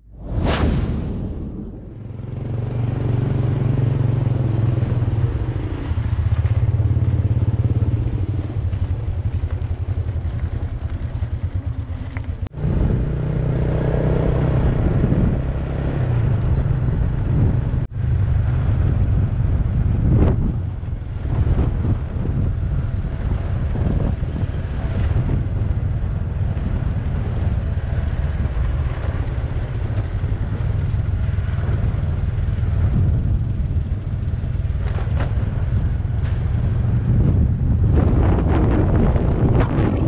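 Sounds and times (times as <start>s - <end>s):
motorcycle engine running: 1.6s - 40.0s.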